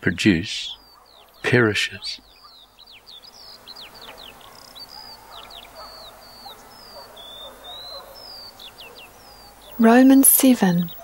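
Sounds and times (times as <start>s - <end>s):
soft bird calls: 0.0s - 11.0s
birdsong whistled notes: 0.4s - 11.0s.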